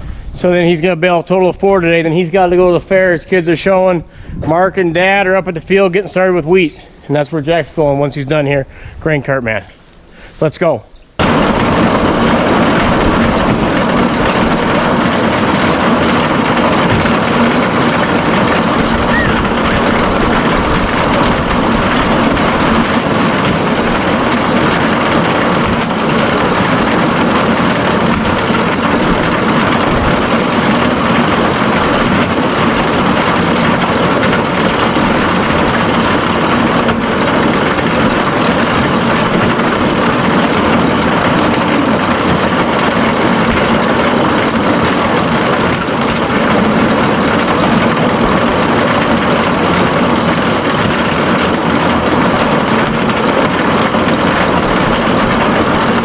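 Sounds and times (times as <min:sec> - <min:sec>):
bale elevator mechanical drone: 0:00.0 - 0:09.0, 0:09.8 - 0:56.0.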